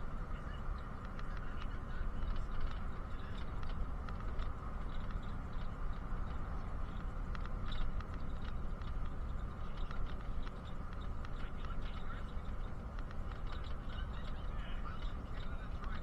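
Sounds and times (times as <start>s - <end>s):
bus engine and road rumble: 0.0s - 16.0s
light rattles and clicks: 0.0s - 16.0s.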